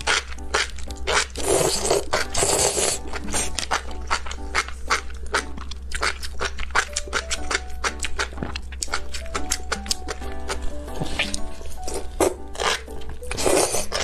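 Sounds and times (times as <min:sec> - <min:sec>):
wet slurping: 0:00.0 - 0:10.1, 0:11.1 - 0:14.0
wet chewing mouth clicks: 0:00.0 - 0:10.6, 0:11.2 - 0:14.0.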